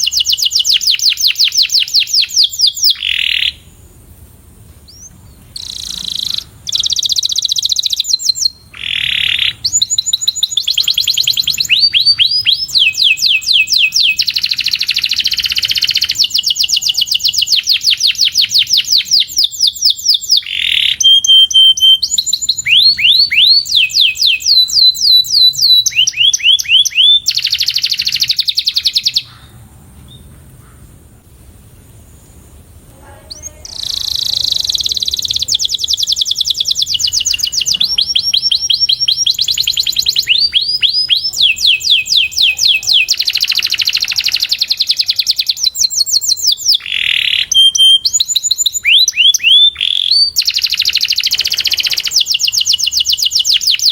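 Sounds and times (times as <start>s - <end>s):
canary singing in fast runs: 4.9s - 29.4s, 33.3s - 53.9s.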